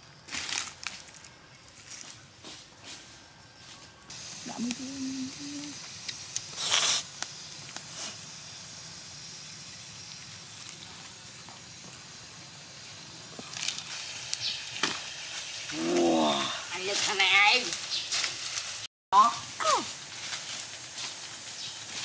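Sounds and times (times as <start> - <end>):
soup steaming and sizzling: 4.1 - 22.0.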